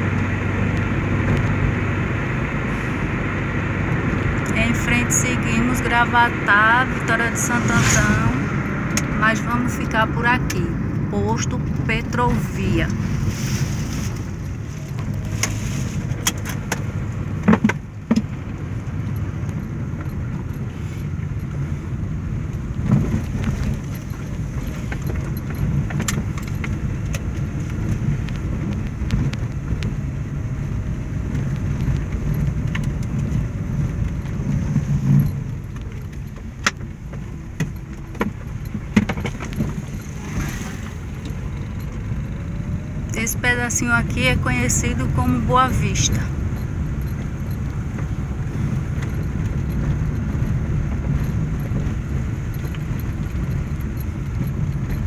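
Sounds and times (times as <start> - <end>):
engine and road rumble: 0.0 - 55.0
car clicks and rattles: 8.6 - 55.0.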